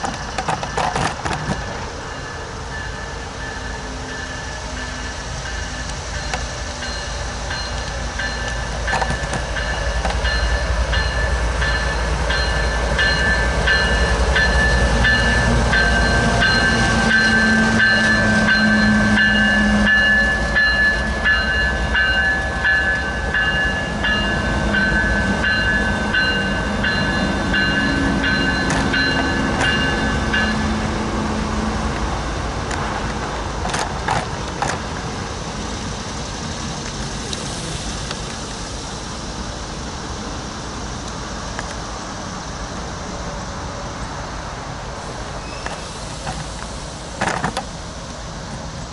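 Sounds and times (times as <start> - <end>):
train rumble: 0.0 - 48.9
train wheels clicking over rail joints: 0.0 - 48.9.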